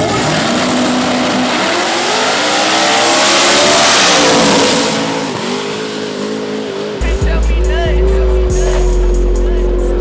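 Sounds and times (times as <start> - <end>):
drag racing engines revving: 0.0 - 10.0.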